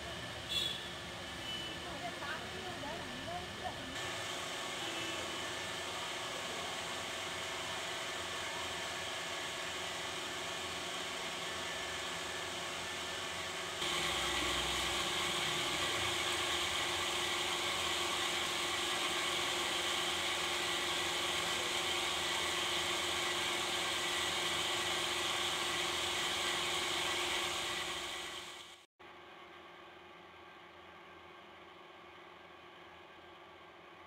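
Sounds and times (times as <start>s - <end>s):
mechanical whirr and hiss: 0.0s - 28.8s.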